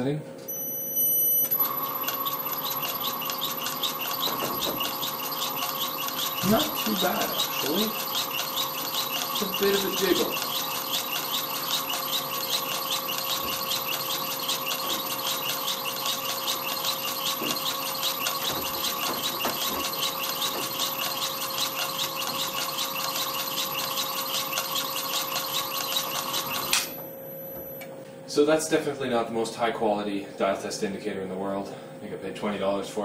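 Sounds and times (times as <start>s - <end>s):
mill spindle whining: 0.9s - 27.9s.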